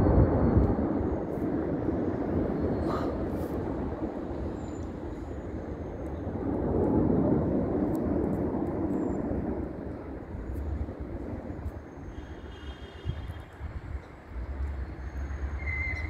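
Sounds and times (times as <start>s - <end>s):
jet aircraft roar overhead: 0.0s - 16.0s.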